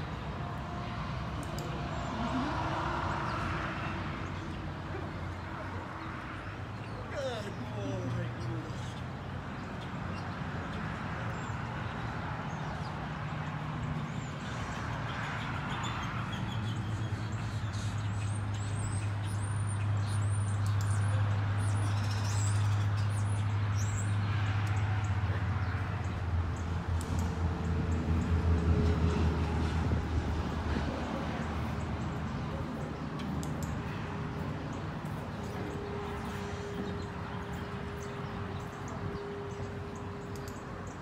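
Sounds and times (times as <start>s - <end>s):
birds chirping: 1.3s - 28.4s, 29.1s - 41.0s.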